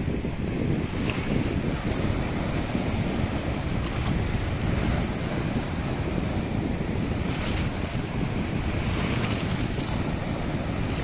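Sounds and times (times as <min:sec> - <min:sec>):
waves breaking in shallows: 0:00.0 - 0:11.0
wind buffeting microphone: 0:00.0 - 0:11.0.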